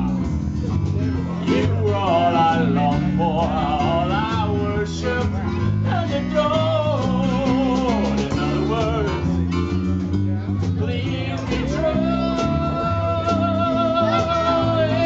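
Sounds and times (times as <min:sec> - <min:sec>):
bass guitar: 0:00.0 - 0:15.0
drums: 0:00.0 - 0:15.0
keyboard: 0:00.0 - 0:15.0
man singing into a microphone: 0:01.2 - 0:09.5, 0:10.6 - 0:15.0.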